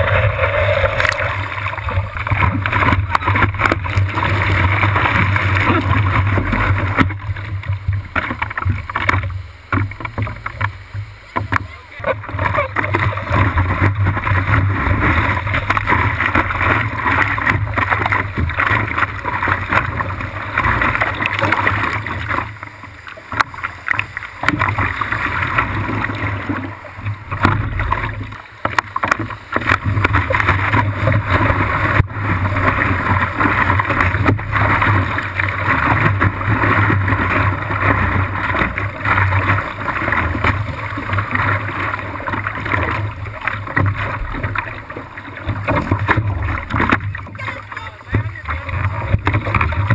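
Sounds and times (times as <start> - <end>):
water rushing and splashing: 0.0 - 49.9.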